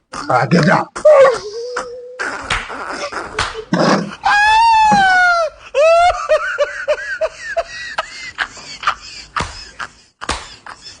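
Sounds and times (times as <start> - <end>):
person laughing: 1.0 - 11.0.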